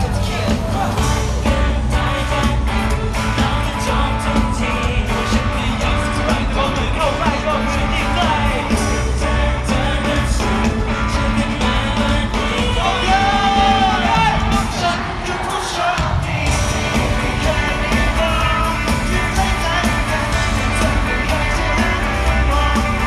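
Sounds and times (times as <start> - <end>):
drum beat: 0.0 - 23.0
heavy bass: 0.0 - 23.0
men singing into microphones: 0.0 - 23.0.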